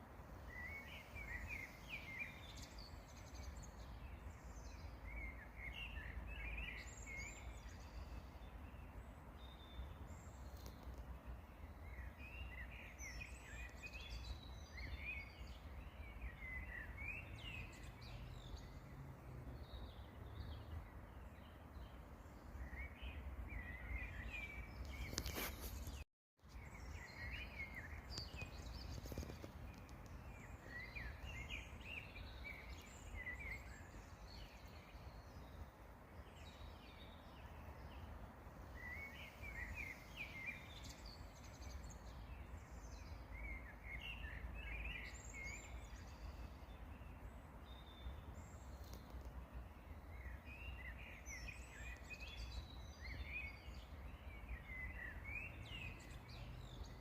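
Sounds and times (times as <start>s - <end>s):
songbirds twittering: 0.0s - 57.0s.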